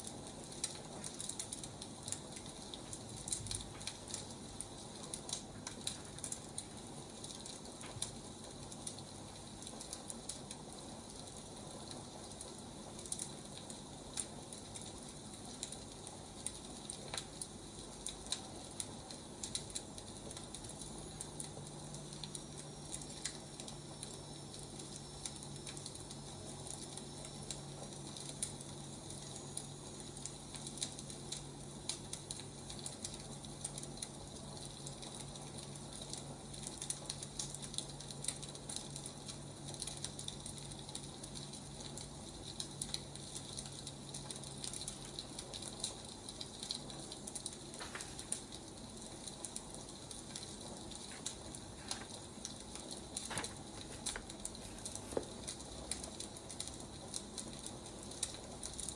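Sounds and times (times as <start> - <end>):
wood fire popping and snapping: 0.0 - 58.9.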